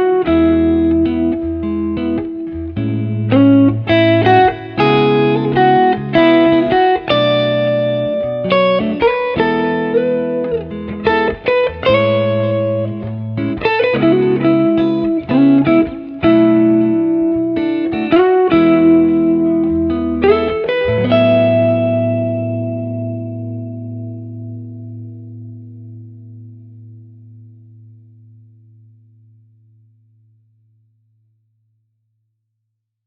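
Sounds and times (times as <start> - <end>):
guitar music: 0.0 - 30.0.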